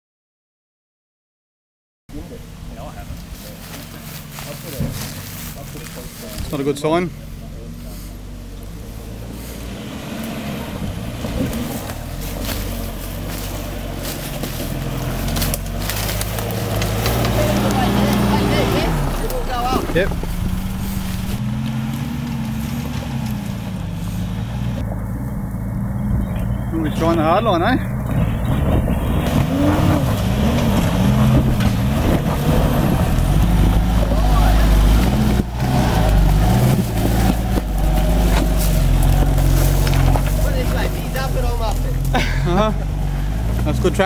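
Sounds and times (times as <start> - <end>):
engine labouring under load: 2.1 - 44.0
sticks and stones crunching under tyres: 3.2 - 44.0.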